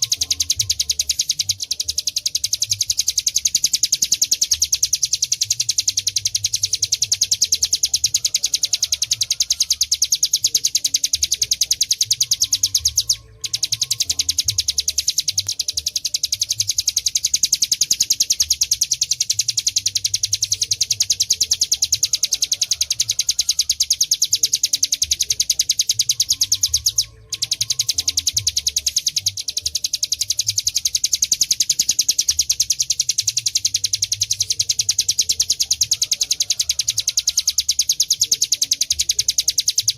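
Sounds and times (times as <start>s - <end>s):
bird singing high sharp chip notes: 0.0s - 39.9s.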